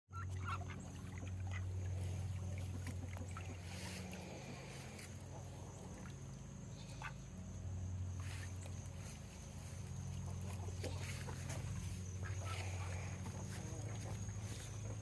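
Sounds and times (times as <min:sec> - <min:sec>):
steady low hum: 0:00.1 - 0:15.0.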